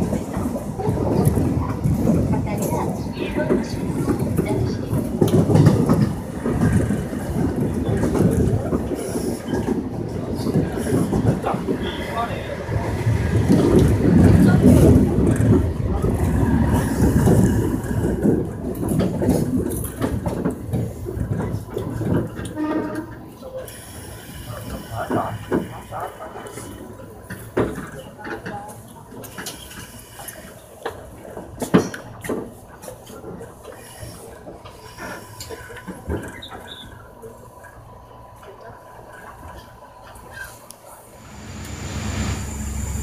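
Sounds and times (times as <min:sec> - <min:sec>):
electric train rumbling on track: 0:00.0 - 0:43.0.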